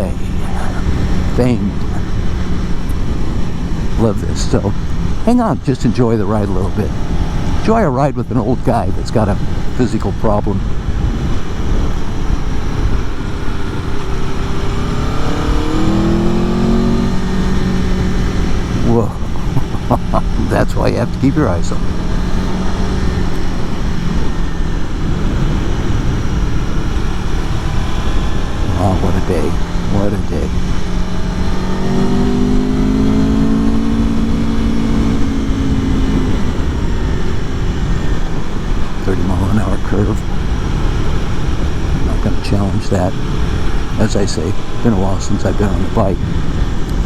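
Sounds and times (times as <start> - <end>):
motorcycle engine accelerating: 0.0 - 47.0
riding wind rush: 0.0 - 47.0.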